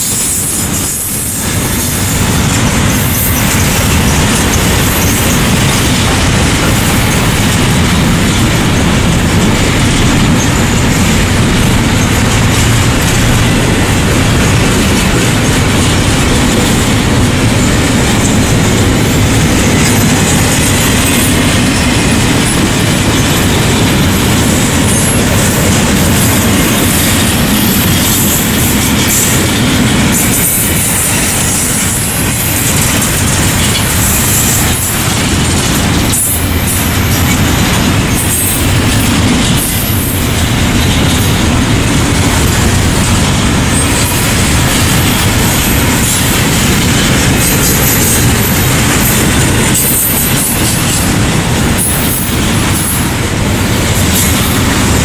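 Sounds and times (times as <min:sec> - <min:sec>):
train wheels rumbling on rails: 0:00.0 - 0:55.0
wheels clicking over rail joints: 0:00.0 - 0:55.0.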